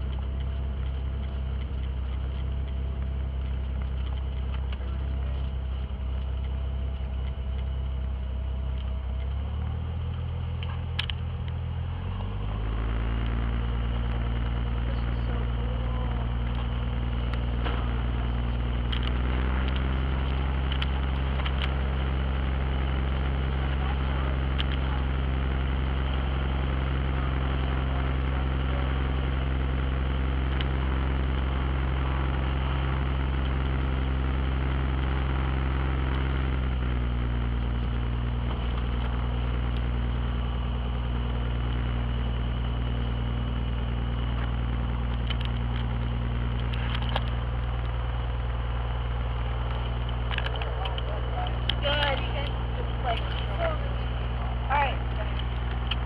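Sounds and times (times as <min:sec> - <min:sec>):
aircraft engine and propeller: 0:00.0 - 0:56.0.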